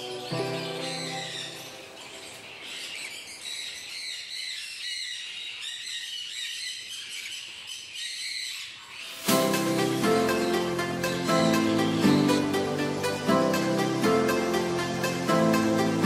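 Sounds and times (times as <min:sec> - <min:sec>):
caged birds chirping: 0:00.0 - 0:16.0.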